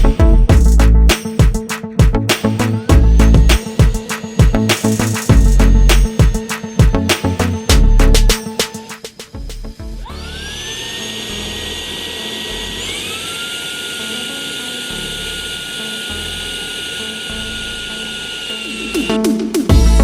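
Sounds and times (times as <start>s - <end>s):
handheld vacuum motor whine: 2.4s - 19.8s.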